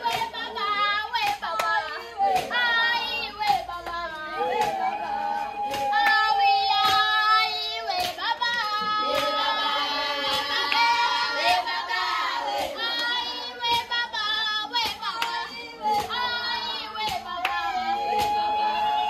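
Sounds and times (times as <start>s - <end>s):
girls singing in chorus: 0.0s - 19.0s
handclaps: 0.0s - 19.0s.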